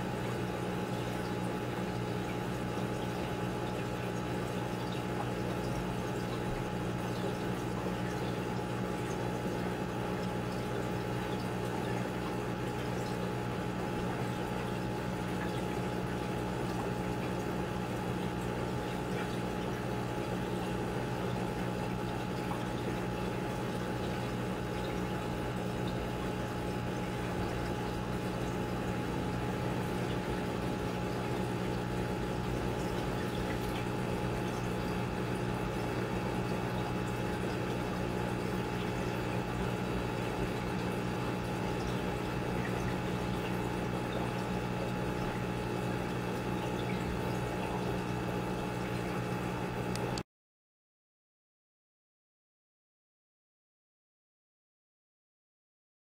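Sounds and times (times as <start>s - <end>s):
aquarium pump humming: 0.0s - 50.2s
water flowing and bubbling: 0.0s - 50.2s.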